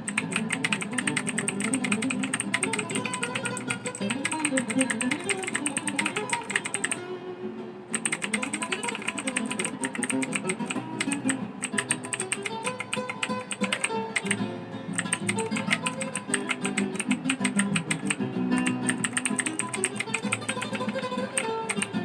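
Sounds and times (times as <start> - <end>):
mechanical keyboard typing: 0.0 - 7.0, 7.9 - 22.0
guitar music: 0.0 - 22.0.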